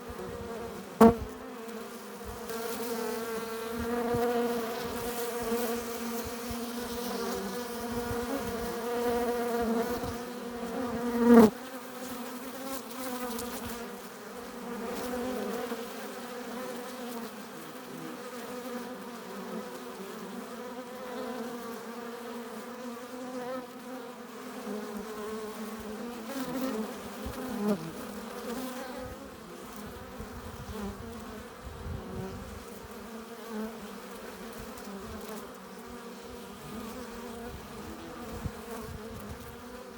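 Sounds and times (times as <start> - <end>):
bees buzzing at hive: 0.0 - 39.9
single bees flying past: 0.0 - 39.9.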